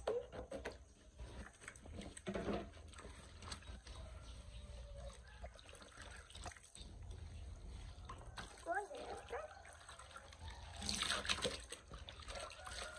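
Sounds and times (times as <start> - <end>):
water trickling and splashing: 0.7 - 12.9.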